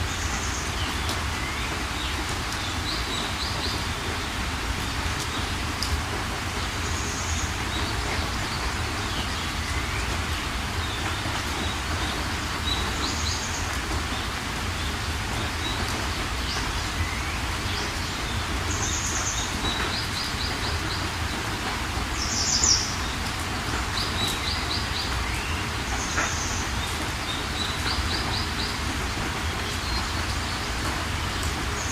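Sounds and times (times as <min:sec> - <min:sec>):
steady rain hiss: 0:00.0 - 0:31.9.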